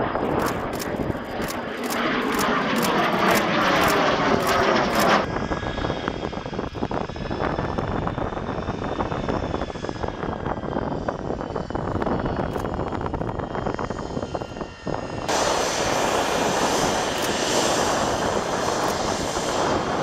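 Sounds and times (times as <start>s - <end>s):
jet engine whine while taxiing: 0.0s - 20.0s
jet plane climbing past: 0.0s - 20.0s.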